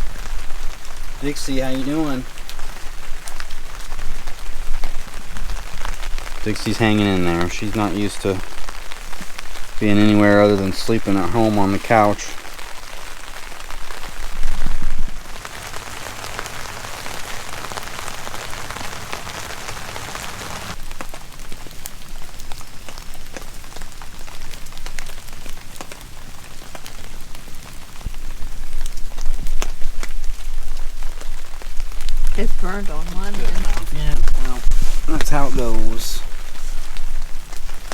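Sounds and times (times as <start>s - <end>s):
rain falling: 0.0s - 37.9s
raindrop taps: 0.0s - 37.9s.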